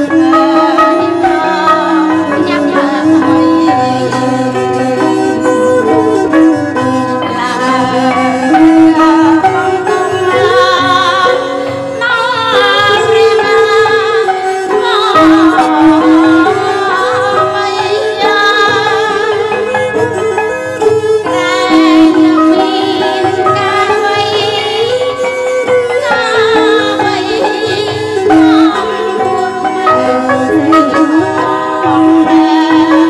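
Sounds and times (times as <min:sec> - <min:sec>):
traditional ensemble melody: 0:00.0 - 0:33.0.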